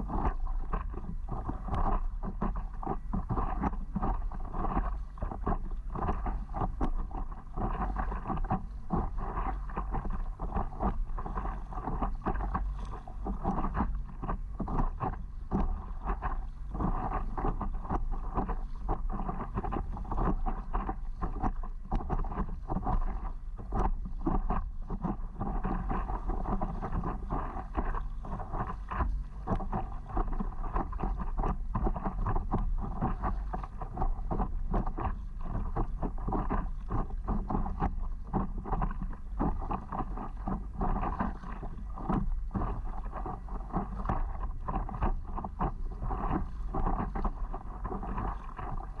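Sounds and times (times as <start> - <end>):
water splashing and lapping: 0.0 - 49.0.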